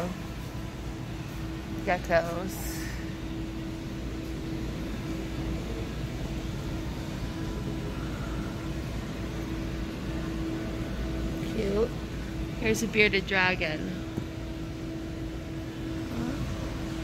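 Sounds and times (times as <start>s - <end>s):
machinery hum and hiss: 0.0s - 17.0s.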